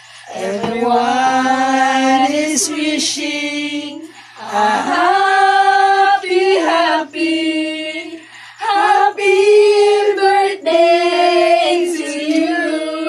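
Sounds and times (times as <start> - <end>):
women and children singing: 0.0 - 13.0.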